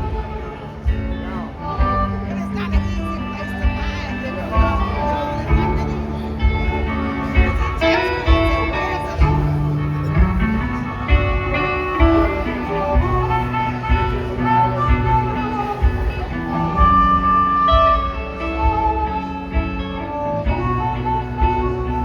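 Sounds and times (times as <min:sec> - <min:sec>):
blues band playing: 0:00.0 - 0:22.0
drum and bass beat: 0:00.0 - 0:22.0
guitar melody: 0:00.0 - 0:22.0.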